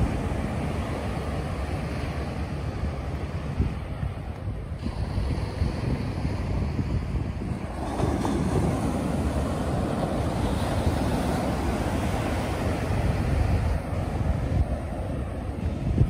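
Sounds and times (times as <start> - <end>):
ocean surf washing: 0.0 - 16.0
wind buffeting microphone: 0.0 - 16.0.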